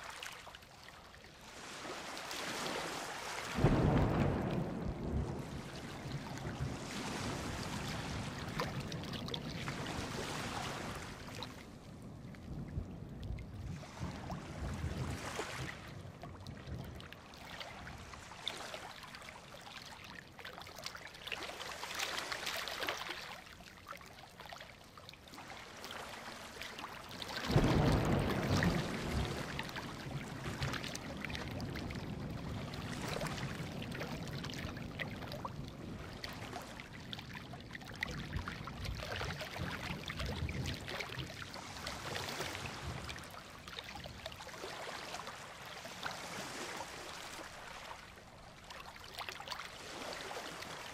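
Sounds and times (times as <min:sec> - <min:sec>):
ocean surf washing on beach: 0:00.0 - 0:20.4, 0:25.2 - 0:50.9.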